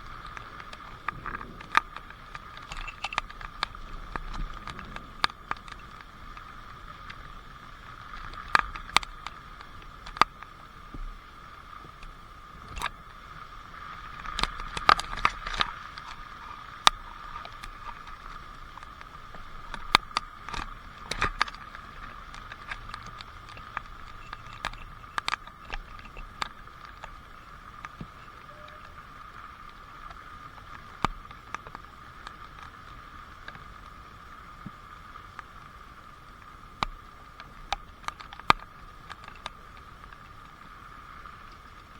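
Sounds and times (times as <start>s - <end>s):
rain hissing: 0.0s - 37.6s.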